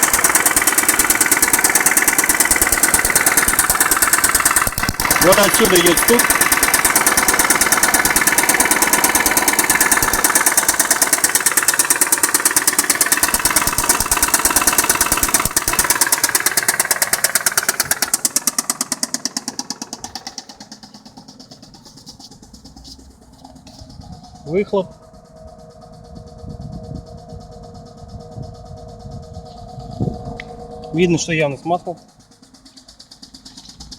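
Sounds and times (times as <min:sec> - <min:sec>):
car engine idling with knock: 0:00.0 - 0:25.6, 0:30.2 - 0:33.9.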